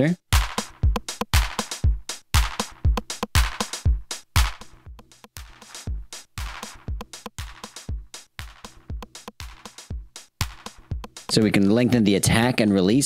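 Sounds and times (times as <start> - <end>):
deep kick drum: 0.3 - 11.4
sharp high drum hits: 0.4 - 11.4.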